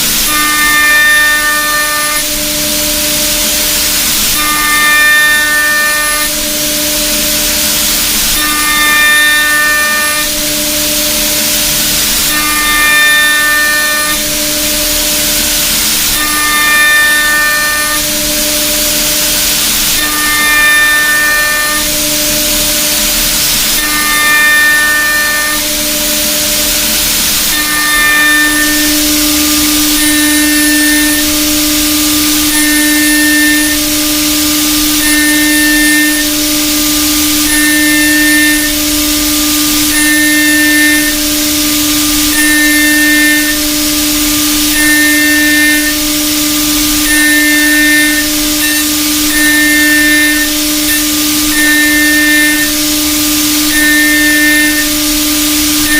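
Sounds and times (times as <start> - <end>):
high cutter squeal: 0.0 - 55.9
milling machine cutting metal: 0.0 - 55.9.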